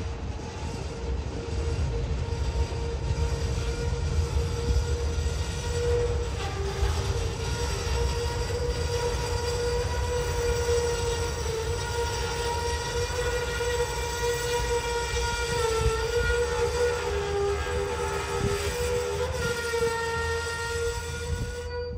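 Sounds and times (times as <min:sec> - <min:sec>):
freight train rumbling: 0:00.0 - 0:21.9
train wheels squealing: 0:00.0 - 0:21.9.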